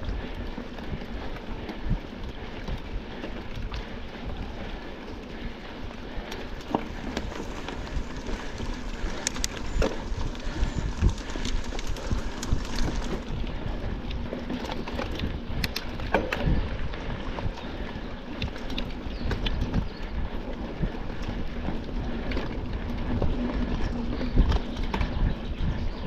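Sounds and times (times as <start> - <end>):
tyre and wind noise: 0.0 - 26.0
bike rattling clicks and knocks: 0.1 - 26.0.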